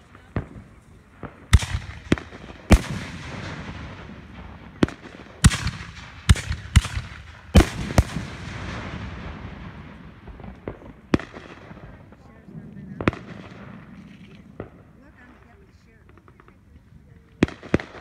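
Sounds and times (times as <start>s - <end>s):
fireworks bangs with echo: 0.0s - 18.0s
small fireworks pops: 0.0s - 18.0s.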